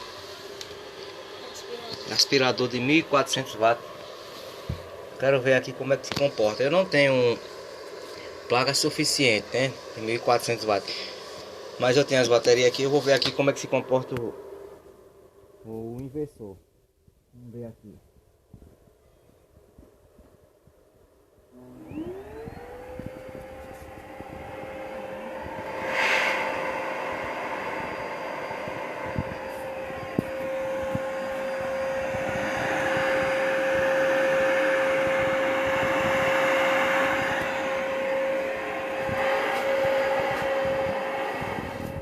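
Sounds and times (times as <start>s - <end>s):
vacuum cleaner motor whining: 0.0s - 14.8s, 21.5s - 42.0s.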